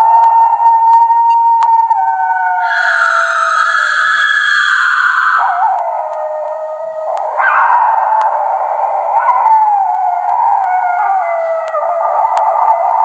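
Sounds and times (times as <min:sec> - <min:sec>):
wolves howling: 0:00.0 - 0:13.0.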